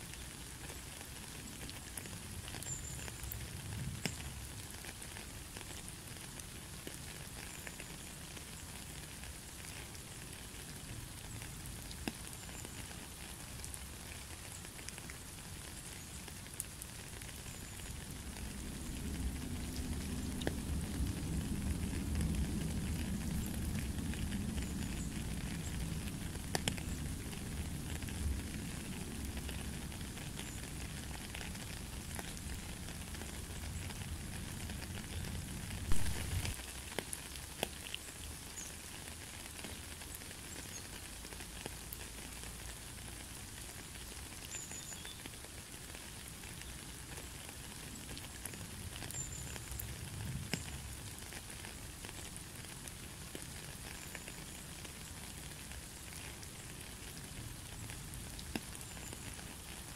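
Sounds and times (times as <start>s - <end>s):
rain on puddle and gravel: 0.0s - 59.9s.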